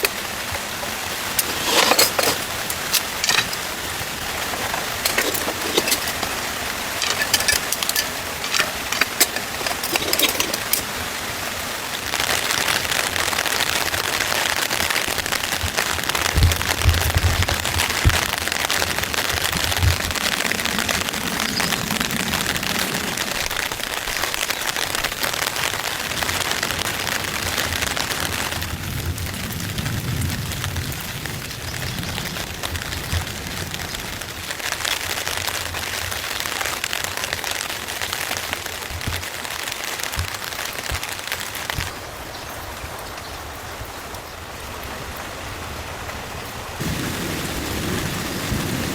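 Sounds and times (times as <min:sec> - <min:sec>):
heavy rain on a tent roof: 0:00.0 - 0:48.9.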